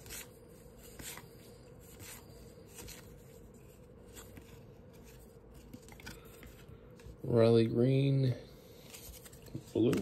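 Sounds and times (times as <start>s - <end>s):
cards being flipped through: 0.0s - 7.2s, 8.8s - 10.0s.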